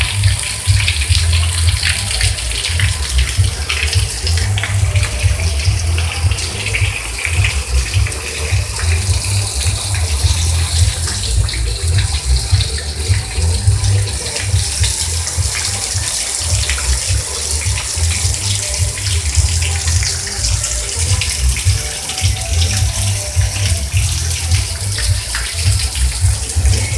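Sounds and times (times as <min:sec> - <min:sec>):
heavy rain splashing on ground: 0:00.0 - 0:26.9.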